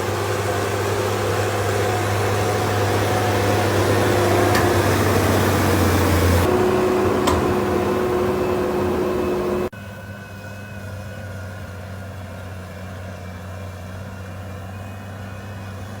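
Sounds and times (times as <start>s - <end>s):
farm machinery engine running: 0.0s - 16.0s.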